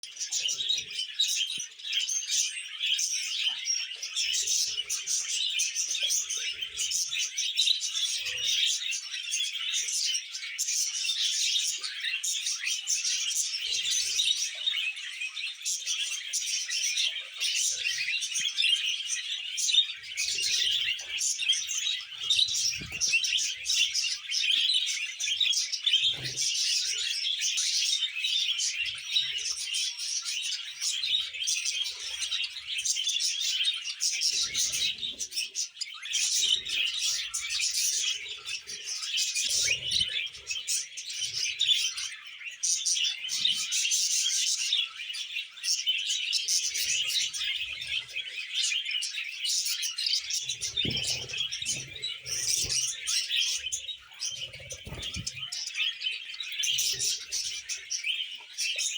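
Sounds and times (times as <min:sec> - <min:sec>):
budgies chattering and warbling: 0:00.0 - 0:58.9.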